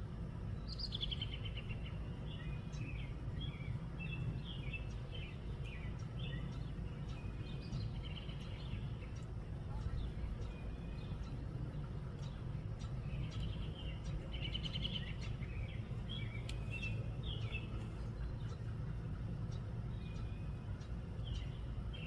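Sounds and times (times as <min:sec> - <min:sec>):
small birds chirping: 0:00.1 - 0:22.0.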